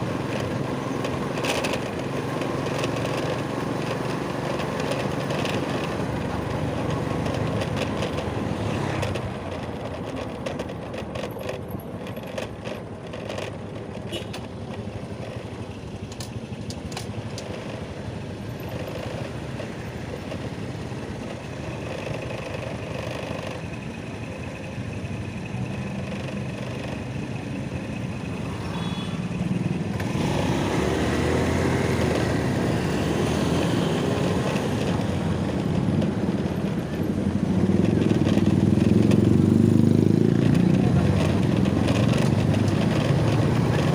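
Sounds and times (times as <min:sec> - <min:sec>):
motor vehicle running: 0:00.0 - 0:43.9
road noise: 0:00.0 - 0:43.9.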